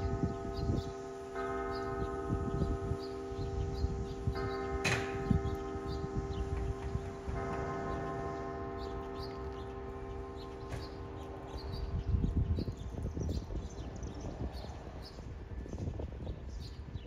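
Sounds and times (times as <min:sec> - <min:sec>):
church bell ringing: 0:00.0 - 0:15.8.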